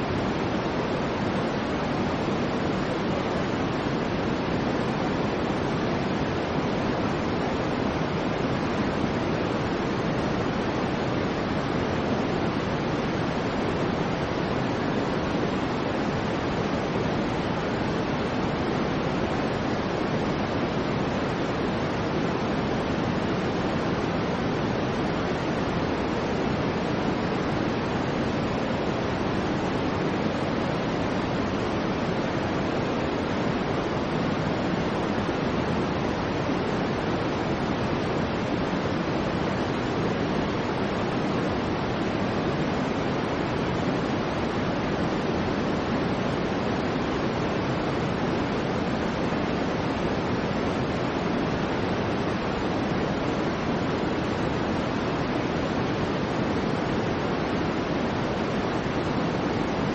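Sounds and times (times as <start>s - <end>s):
soft low white noise hiss: 0.0s - 59.9s.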